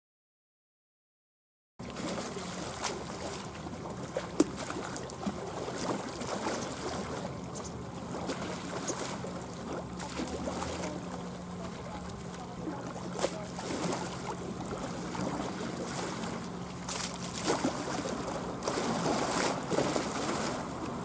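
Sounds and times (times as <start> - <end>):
water lapping and splashing: 1.8 - 21.0.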